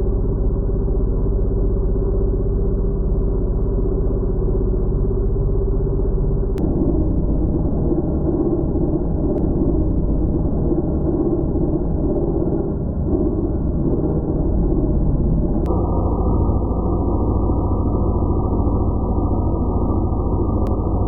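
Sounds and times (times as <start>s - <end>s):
milling machine rumbling: 0.0s - 21.0s.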